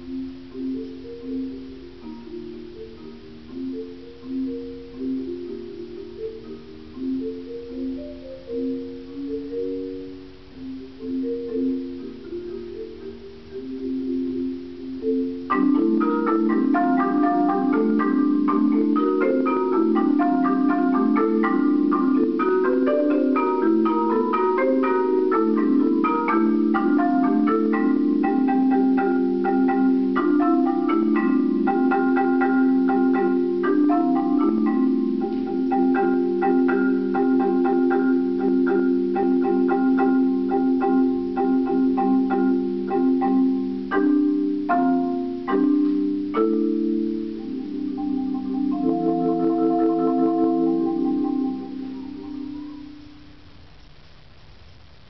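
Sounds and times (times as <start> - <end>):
marimba played with mallets: 0.0 - 53.5.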